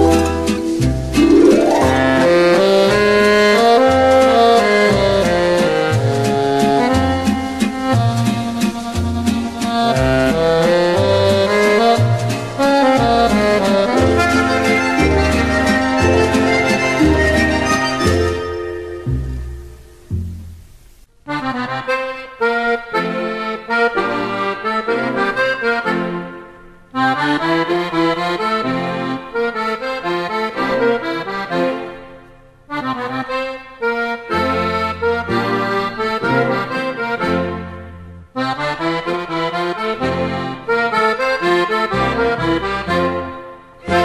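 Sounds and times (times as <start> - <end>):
accordion folk music: 0.0 - 20.4, 21.2 - 44.0.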